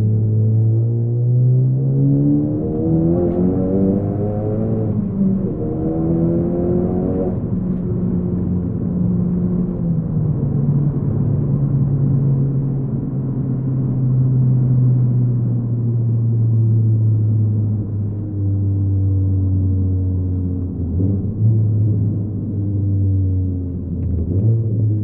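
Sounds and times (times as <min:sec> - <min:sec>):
car engine revving and shifting: 0:00.0 - 0:13.0, 0:13.6 - 0:25.0.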